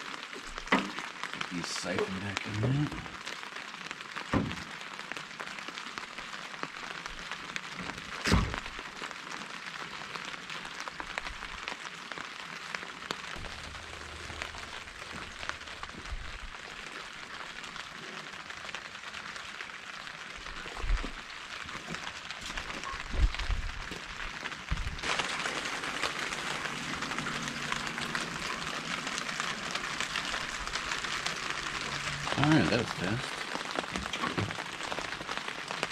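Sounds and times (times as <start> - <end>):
liquid pattering hiss: 0.0 - 35.9.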